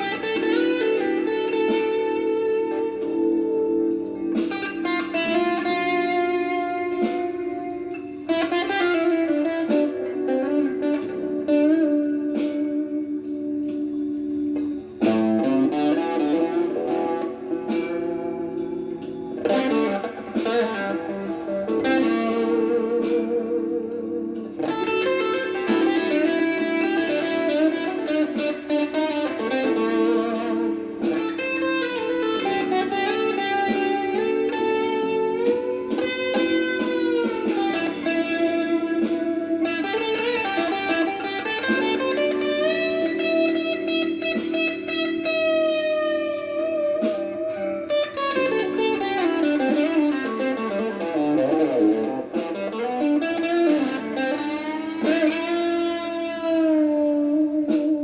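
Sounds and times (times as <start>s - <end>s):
electric guitar blues lead: 0.0s - 58.0s.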